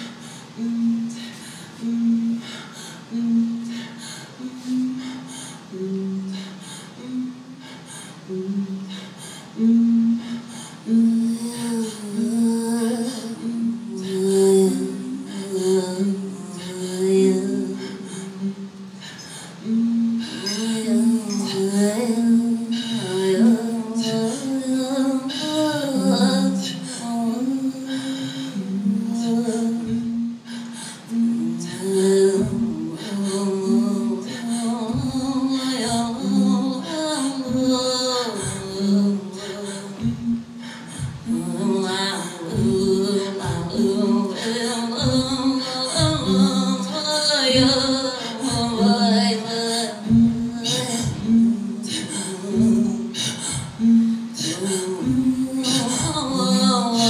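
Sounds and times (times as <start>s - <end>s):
high wavering sung melody: 0.0s - 40.7s, 41.3s - 57.0s
breathy vocal passages: 0.0s - 57.0s
women throat singing: 0.0s - 57.0s.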